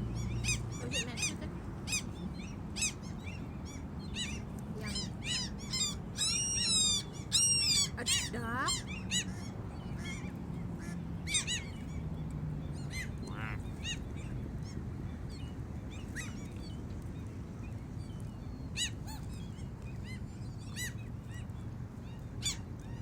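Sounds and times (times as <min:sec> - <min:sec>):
gulls calling: 0:00.0 - 0:23.0
low steady hum: 0:00.0 - 0:23.0.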